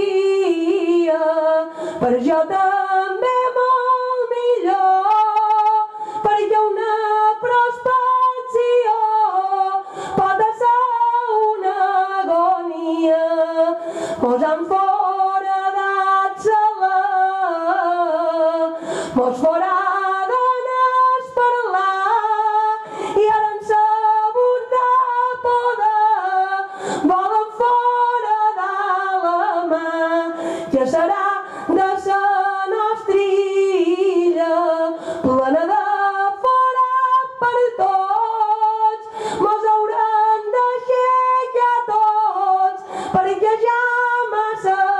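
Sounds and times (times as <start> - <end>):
woman singing unaccompanied: 0.0 - 44.9.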